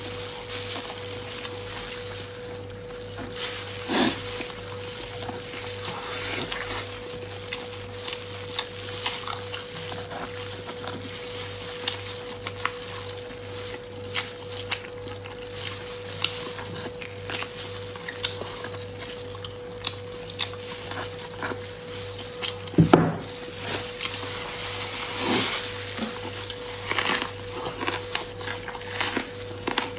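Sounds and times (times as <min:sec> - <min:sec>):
sticky tearing of meat: 0:00.0 - 0:29.9
wet chewing: 0:00.0 - 0:29.9.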